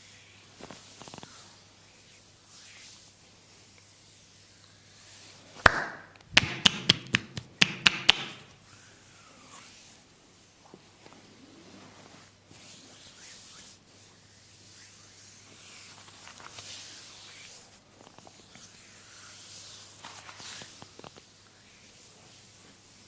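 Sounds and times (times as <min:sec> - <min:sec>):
hands rubbing on skin and hair: 0:00.3 - 0:23.0.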